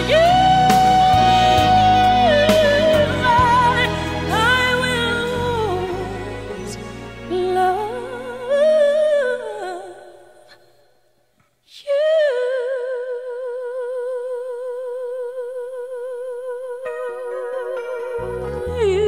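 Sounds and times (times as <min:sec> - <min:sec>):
person singing: 0:00.0 - 0:10.6, 0:11.7 - 0:19.0.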